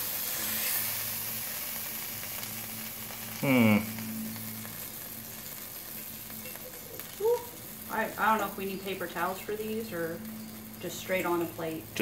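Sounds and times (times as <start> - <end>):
steak and potatoes sizzling in oil: 0.0 - 12.0.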